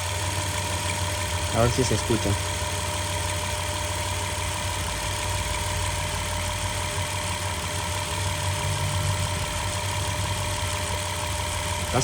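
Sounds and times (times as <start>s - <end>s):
misfiring engine idling: 0.0s - 12.0s.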